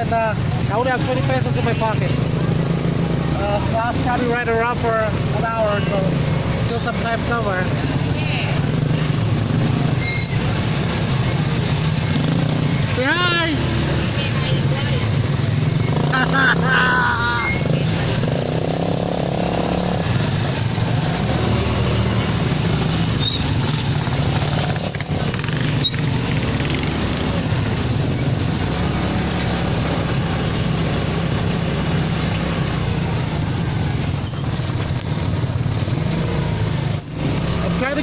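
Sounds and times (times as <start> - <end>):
road noise: 0.0 - 38.0
truck engine hum: 0.0 - 38.0.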